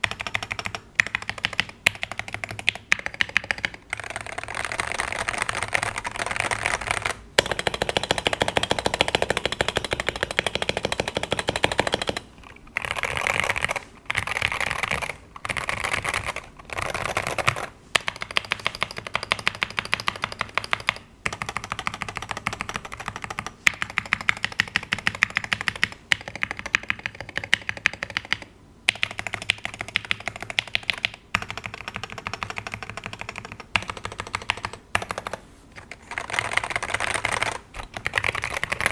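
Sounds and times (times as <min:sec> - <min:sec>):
fast typing on a keyboard: 0:00.0 - 0:38.9.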